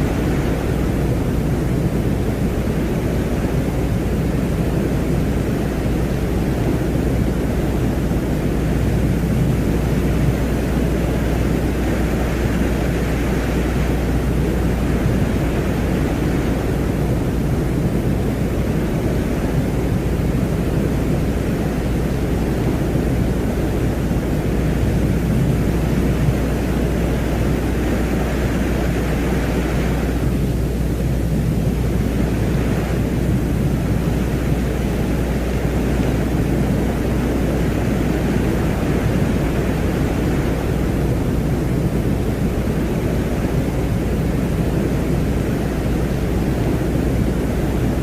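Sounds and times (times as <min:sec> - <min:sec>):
dense rumbling noise drone: 0:00.0 - 0:48.0.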